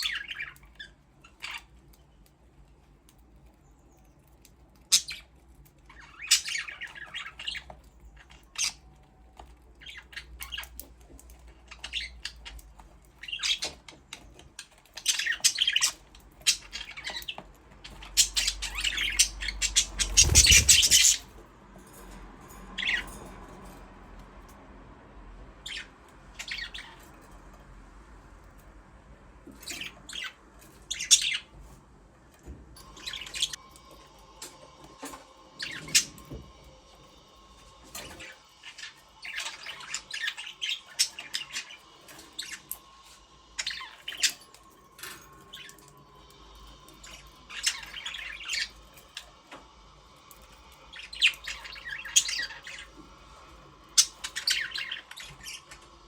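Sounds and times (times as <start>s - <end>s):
budgerigars chirping and squawking: 0.0s - 21.4s, 22.5s - 23.8s, 25.6s - 27.3s, 29.5s - 31.6s, 32.8s - 33.9s, 35.4s - 56.0s.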